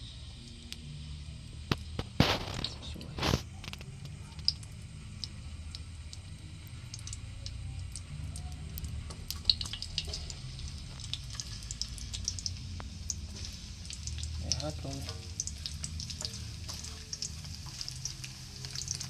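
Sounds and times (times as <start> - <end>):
hot oil crackling in a wok: 0.0 - 19.0.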